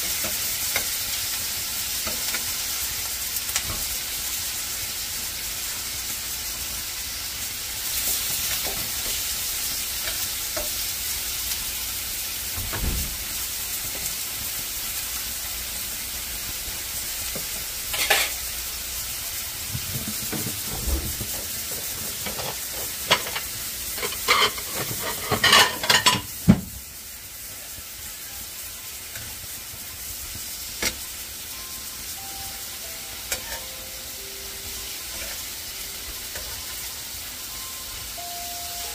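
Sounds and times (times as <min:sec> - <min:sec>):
meat sizzling on grill pan: 0:00.0 - 0:38.9.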